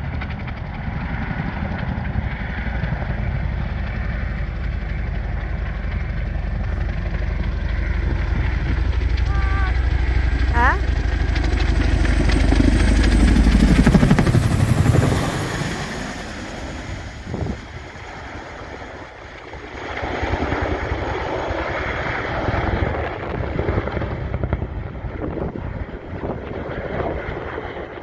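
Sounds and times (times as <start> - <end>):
helicopter rotor beat: 0.0 - 28.0.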